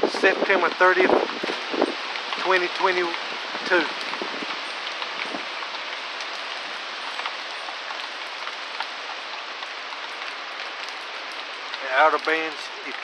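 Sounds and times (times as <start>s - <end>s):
sharp raindrop ticks: 0.0s - 13.0s
steady rain falling: 0.0s - 13.0s.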